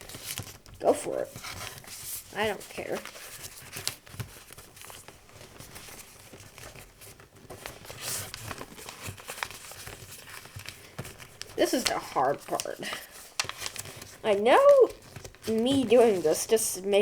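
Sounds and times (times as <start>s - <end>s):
sharp paper crackles: 0.0s - 16.8s
paper crinkling and rustling: 0.0s - 17.0s.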